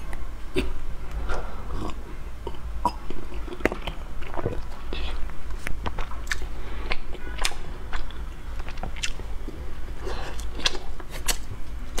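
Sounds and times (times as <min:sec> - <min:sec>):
chewing bread: 0:01.8 - 0:12.0.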